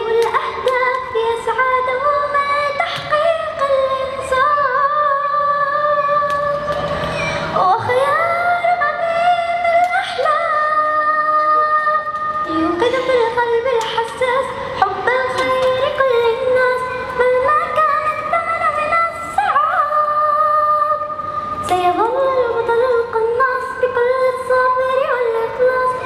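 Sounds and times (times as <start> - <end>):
girl singing unaccompanied: 0.0 - 26.0.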